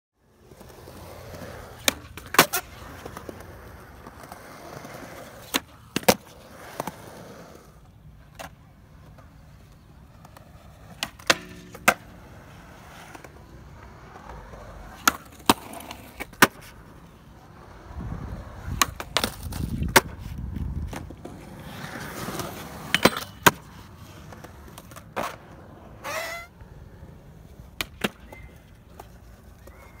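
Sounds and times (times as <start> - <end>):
skateboard wheels rolling on concrete: 0.2 - 30.0
skateboard clacks: 0.5 - 30.0.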